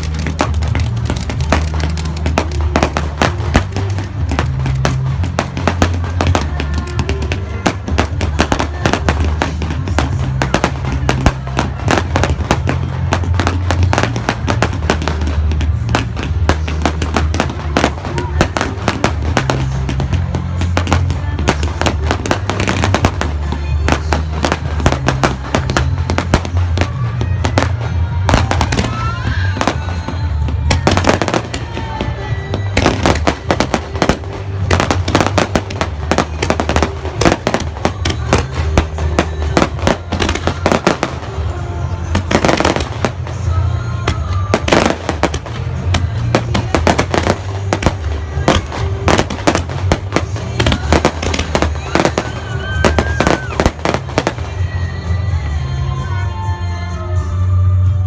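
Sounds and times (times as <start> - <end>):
fireworks bursts and bangs: 0.0 - 57.4
music playing: 0.0 - 58.0.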